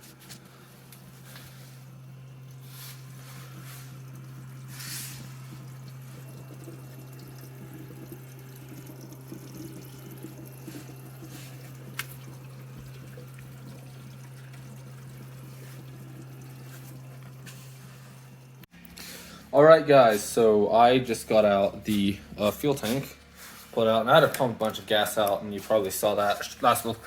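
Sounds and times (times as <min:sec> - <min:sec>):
steady low hum: 0:00.0 - 0:27.0
fuel trickling and dripping: 0:00.3 - 0:27.0.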